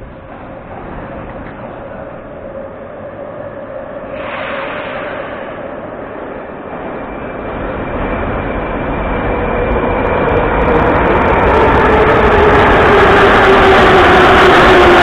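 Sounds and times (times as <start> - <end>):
metro train pulling in: 0.0 - 15.0.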